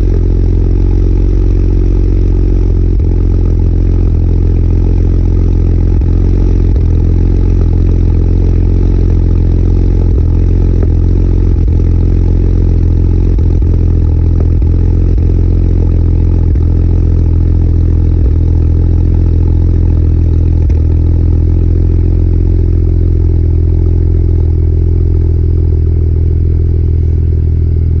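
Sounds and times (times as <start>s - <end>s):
car engine idling with stumble: 0.0s - 28.0s.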